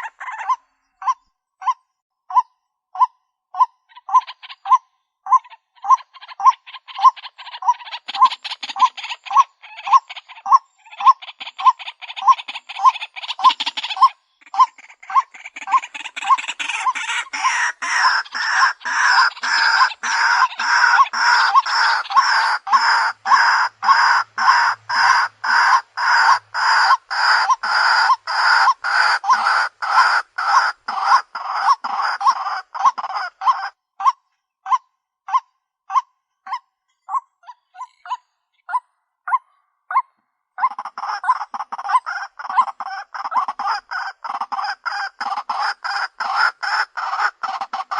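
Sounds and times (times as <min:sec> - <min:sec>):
waterhen calling: 0:00.0 - 0:40.0, 0:40.6 - 0:47.9.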